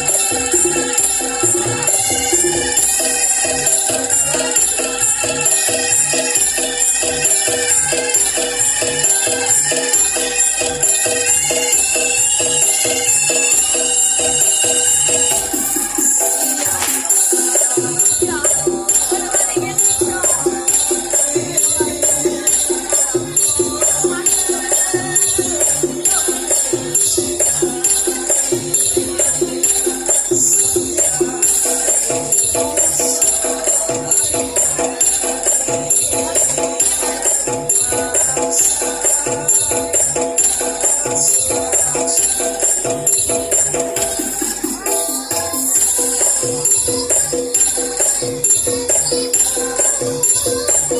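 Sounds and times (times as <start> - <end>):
drums: 0.0 - 50.9
jingling metallic percussion: 0.0 - 50.9.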